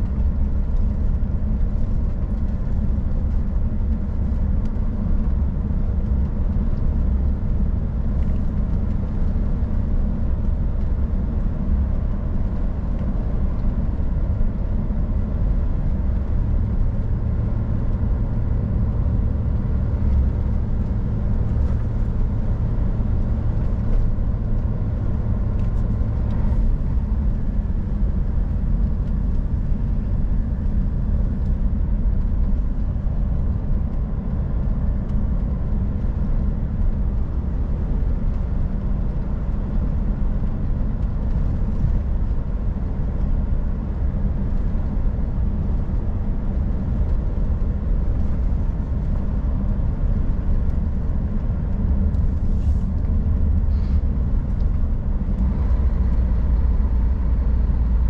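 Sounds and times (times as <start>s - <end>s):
road noise: 0.0s - 58.0s
truck diesel engine drone: 0.0s - 58.0s.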